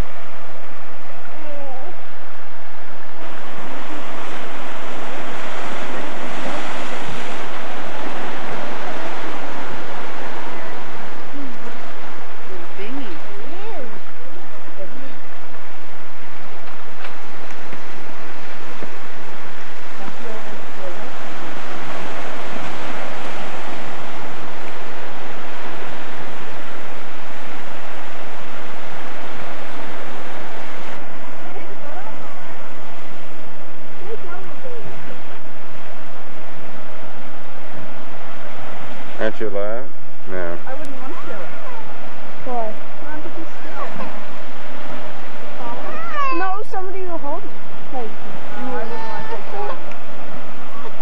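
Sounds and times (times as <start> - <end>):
surf washing against rocks: 0.0 - 51.0
wind buffeting microphone: 0.0 - 51.0.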